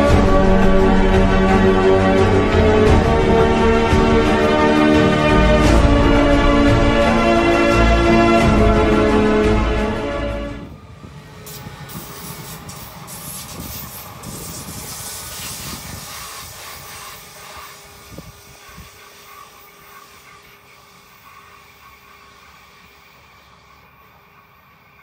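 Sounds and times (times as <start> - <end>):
train wheel and rail noise: 0.0 - 25.0.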